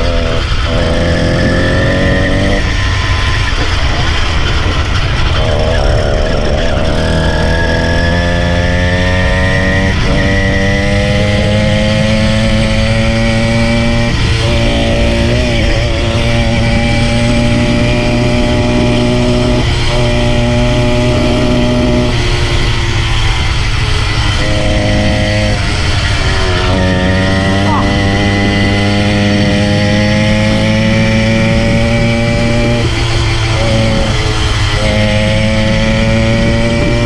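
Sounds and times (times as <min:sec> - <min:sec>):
motorised bicycle engine running: 0:00.0 - 0:37.0.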